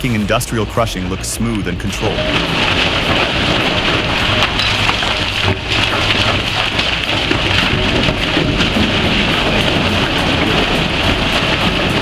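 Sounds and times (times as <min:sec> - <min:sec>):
rock crusher clattering: 0:01.4 - 0:12.0.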